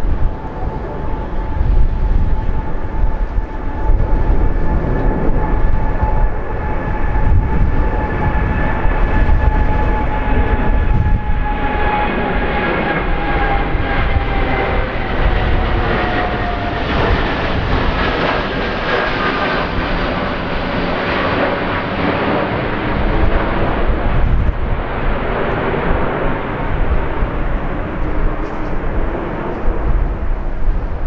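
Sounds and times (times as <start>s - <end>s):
jet engines whining overhead: 0.0s - 31.0s.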